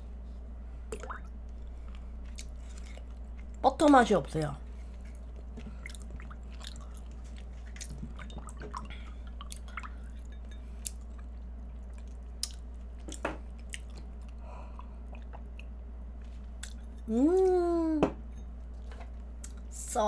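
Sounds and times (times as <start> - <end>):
steady low hum: 0.0 - 20.0
chewing and wet mouth sounds: 0.9 - 17.6, 18.6 - 19.8.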